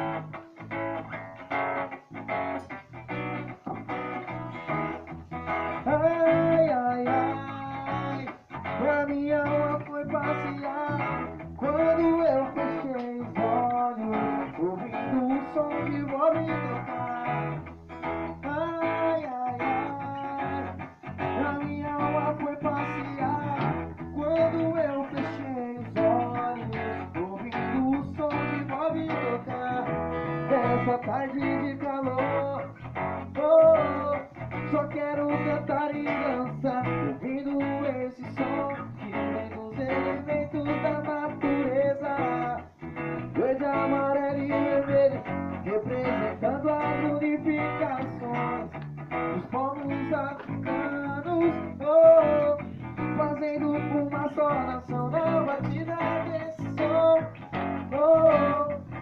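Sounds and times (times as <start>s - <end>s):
bass line: 0.0s - 59.0s
bending lead melody: 0.0s - 59.0s
strummed guitar: 0.0s - 59.0s.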